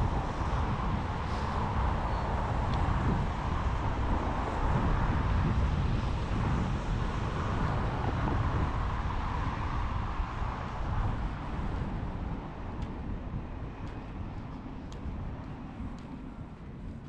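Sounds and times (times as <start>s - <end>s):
distant traffic rumble: 0.0s - 17.0s
wind buffeting microphone: 0.0s - 17.0s.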